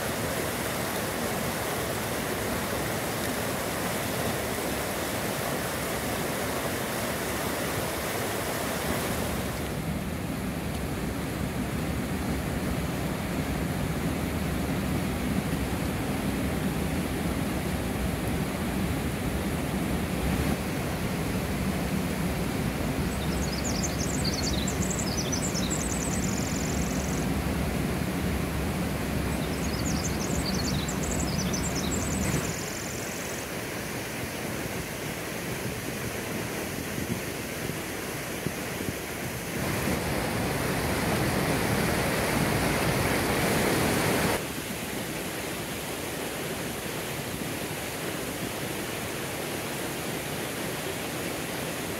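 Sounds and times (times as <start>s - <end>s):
creek rushing over rocks: 0.0s - 51.9s.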